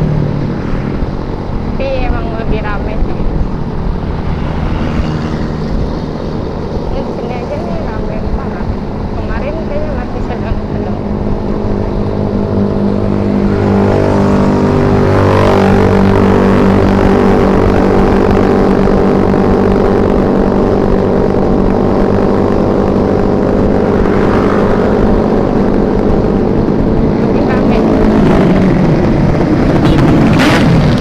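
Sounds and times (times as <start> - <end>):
road and wind noise: 0.0 - 31.0
scooter engine running: 1.2 - 31.0.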